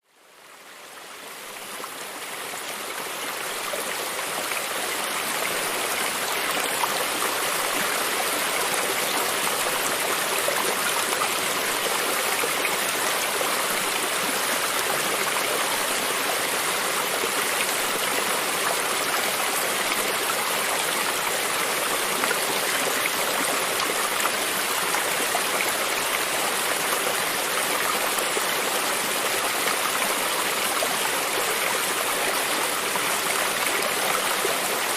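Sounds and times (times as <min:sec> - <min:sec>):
stream rushing and babbling: 0:00.0 - 0:34.9.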